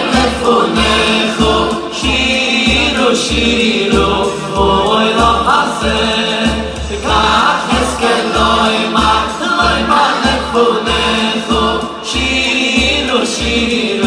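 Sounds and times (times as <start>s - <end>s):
boys' choir singing: 0.0s - 14.0s
steady low beat: 0.0s - 14.0s.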